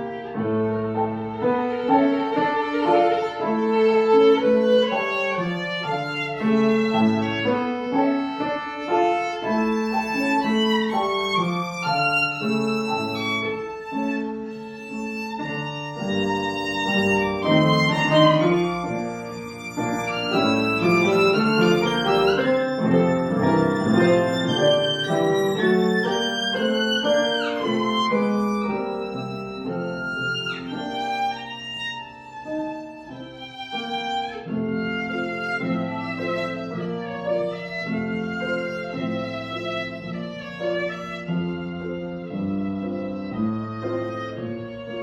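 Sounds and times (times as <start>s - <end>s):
piano accompaniment: 0.0s - 45.0s
violin playing a melody: 0.0s - 45.0s.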